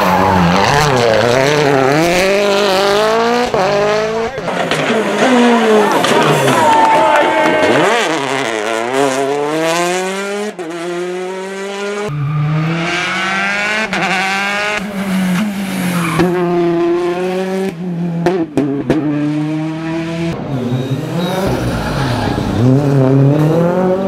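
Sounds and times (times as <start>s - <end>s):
rally car engines accelerating: 0.0s - 24.0s.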